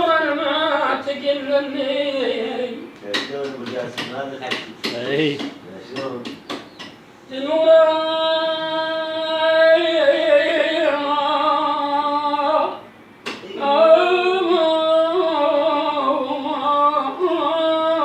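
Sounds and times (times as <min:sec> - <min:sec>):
person singing unaccompanied: 0:00.0 - 0:04.1, 0:07.3 - 0:18.0.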